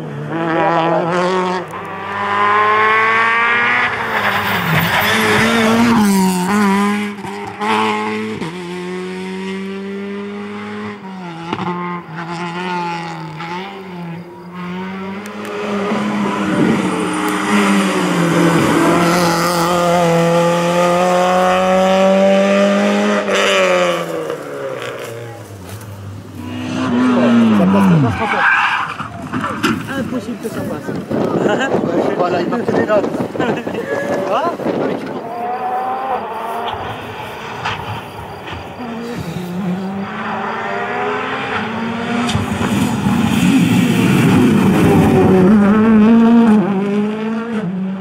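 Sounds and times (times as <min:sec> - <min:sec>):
rally car engines at full throttle: 0:00.0 - 0:48.0.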